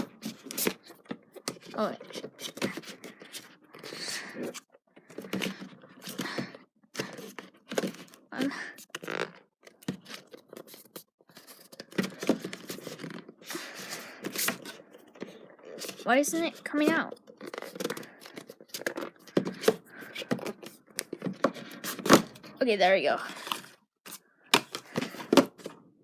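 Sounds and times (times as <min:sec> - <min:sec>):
packaging scraping and rustling: 0:00.0 - 0:06.2, 0:08.8 - 0:22.6, 0:23.2 - 0:25.8.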